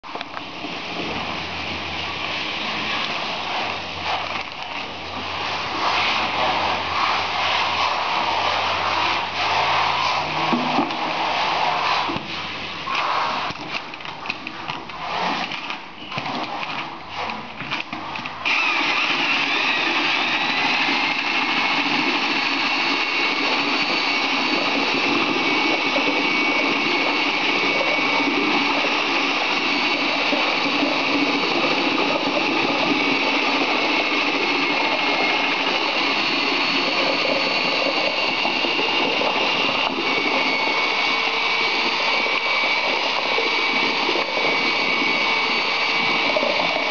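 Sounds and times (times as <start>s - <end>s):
electric drill mixing render: 0.0s - 46.9s.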